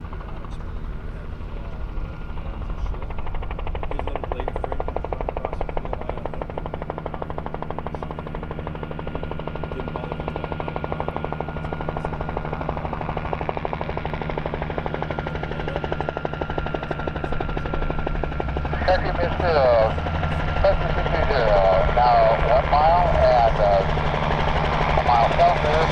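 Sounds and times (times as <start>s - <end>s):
helicopter engine hum: 0.0s - 25.9s
helicopter rotor chopping: 0.0s - 25.9s.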